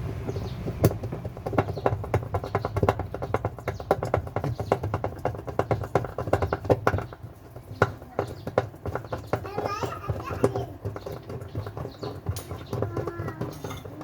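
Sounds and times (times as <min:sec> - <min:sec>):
hard objects clicking and knocking: 0:00.0 - 0:14.0.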